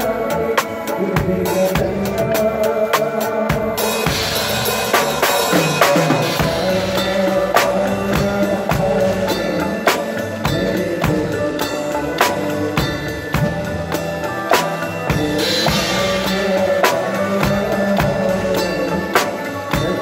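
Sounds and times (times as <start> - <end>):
drum and cymbal beat: 0.0 - 20.0.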